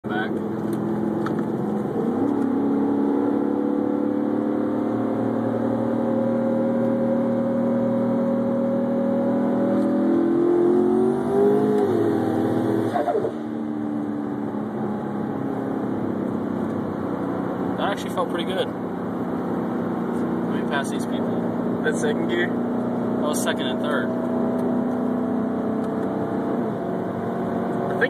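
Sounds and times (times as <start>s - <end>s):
car engine accelerating hard: 0.1s - 28.0s.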